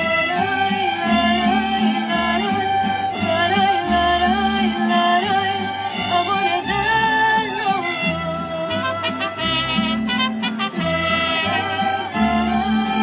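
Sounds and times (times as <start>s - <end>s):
mariachi band playing: 0.0s - 13.0s
violins melody: 0.0s - 13.0s.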